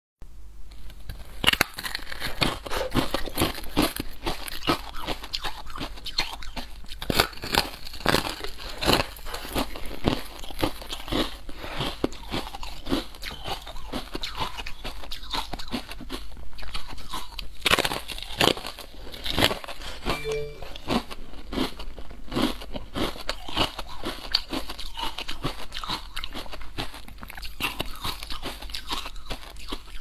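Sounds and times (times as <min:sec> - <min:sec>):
person crunching a snack: 0:00.9 - 0:20.0, 0:21.4 - 0:30.0.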